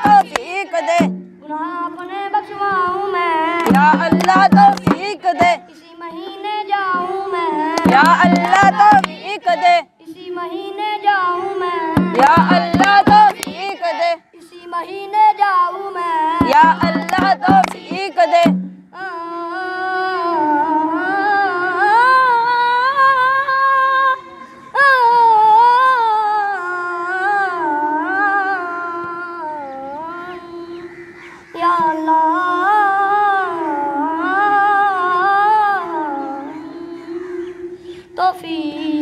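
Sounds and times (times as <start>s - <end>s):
boy singing into microphone: 0.0s - 30.9s, 31.5s - 39.0s.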